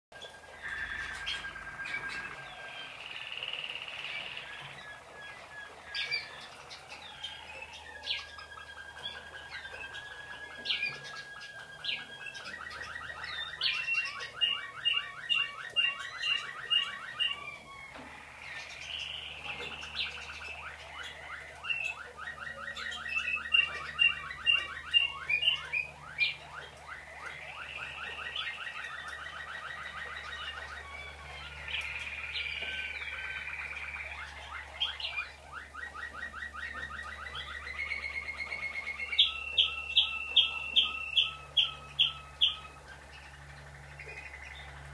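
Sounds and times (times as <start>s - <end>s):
canary singing trills: 0.1s - 44.9s.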